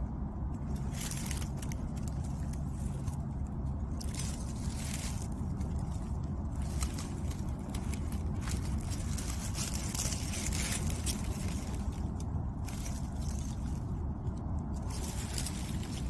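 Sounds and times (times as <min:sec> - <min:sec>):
rustling and scraping: 0:00.0 - 0:16.0
wind buffeting microphone: 0:00.0 - 0:16.0.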